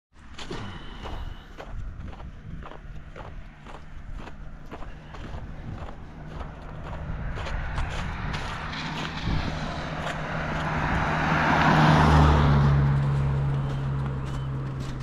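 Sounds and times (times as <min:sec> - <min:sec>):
footsteps: 0:00.2 - 0:15.0
vehicle passing by: 0:00.7 - 0:15.0.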